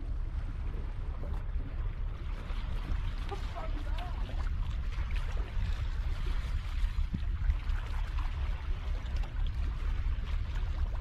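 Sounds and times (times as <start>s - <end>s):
water lapping against rocks: 0.0s - 11.0s
wind buffeting microphone: 0.0s - 11.0s.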